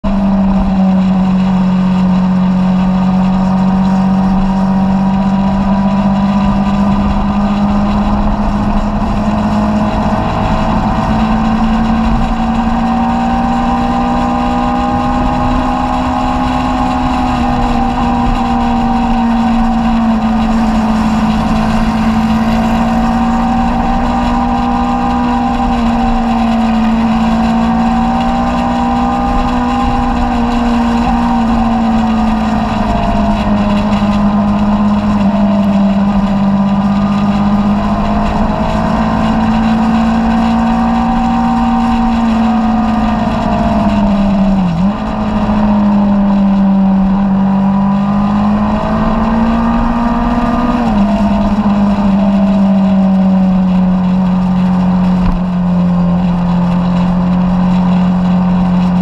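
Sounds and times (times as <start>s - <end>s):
motorcycle engine cruising: 0.0s - 59.0s
wind on microphone: 0.0s - 59.0s.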